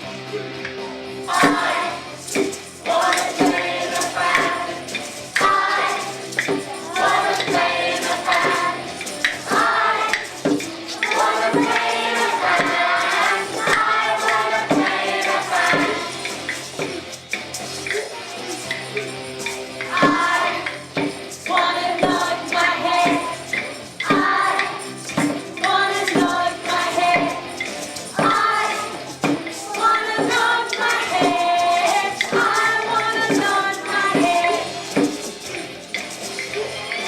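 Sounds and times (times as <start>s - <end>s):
music with steady beat: 0.0s - 37.0s
children singing: 1.2s - 17.2s, 19.8s - 37.0s.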